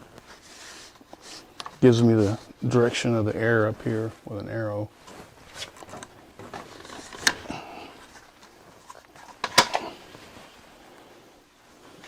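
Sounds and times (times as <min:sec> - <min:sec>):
filter rustling and scraping: 0:00.0 - 0:10.8.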